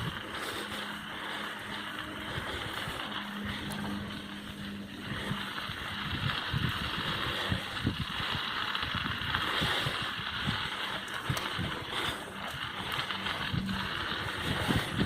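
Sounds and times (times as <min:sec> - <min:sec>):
bike knocking and rattling: 0:00.0 - 0:15.0
wind on microphone: 0:02.3 - 0:12.1, 0:12.8 - 0:15.0.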